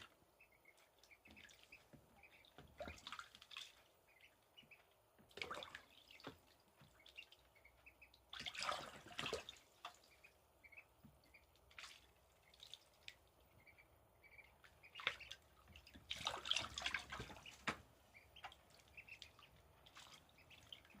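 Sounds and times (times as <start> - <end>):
ducklings peeping: 0.0 - 21.0
ducklings splashing in water: 0.0 - 21.0.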